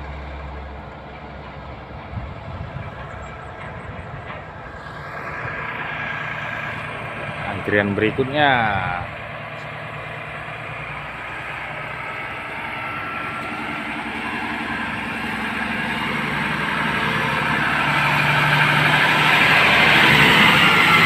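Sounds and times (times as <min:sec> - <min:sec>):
heavy truck engine labouring: 0:00.0 - 0:21.0.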